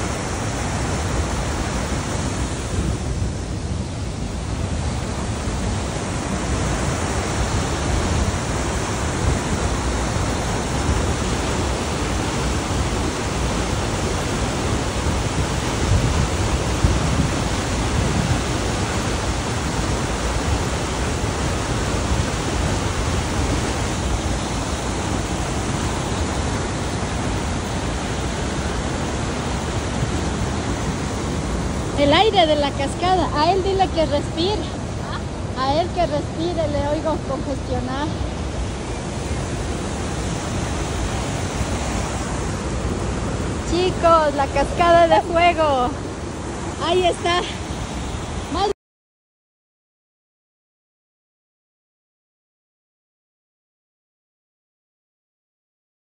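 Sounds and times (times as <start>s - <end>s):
waterfall and river rapids rushing: 0.0s - 48.8s.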